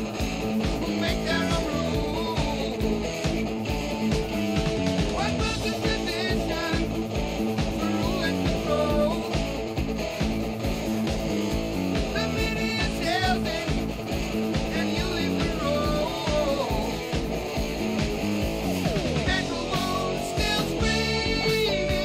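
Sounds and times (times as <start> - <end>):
bending guitar notes: 0.0 - 22.0
rock music with guitar: 0.0 - 22.0.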